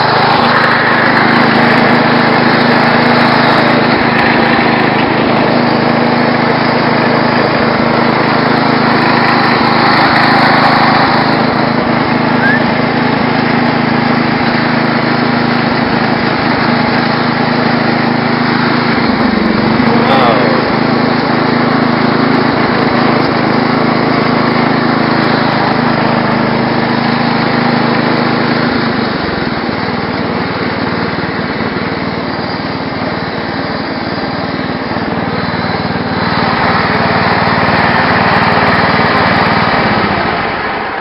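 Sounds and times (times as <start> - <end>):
lawn tractor engine running: 0.0 - 41.0.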